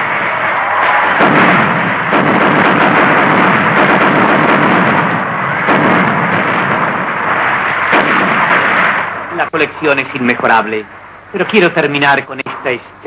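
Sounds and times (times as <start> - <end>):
fireworks crackling and banging: 0.0 - 12.8
sharp firework reports: 0.0 - 12.9.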